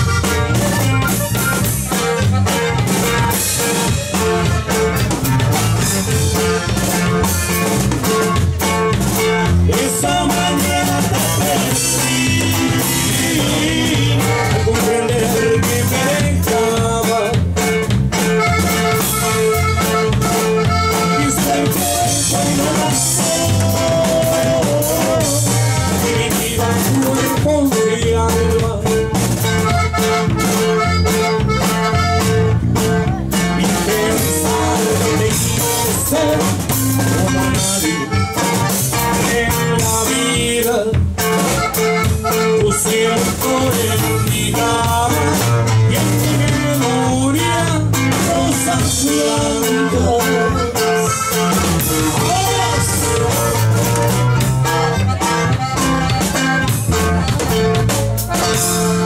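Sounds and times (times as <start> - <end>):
drum kit beat: 0.0 - 59.0
live band playing: 0.0 - 59.0.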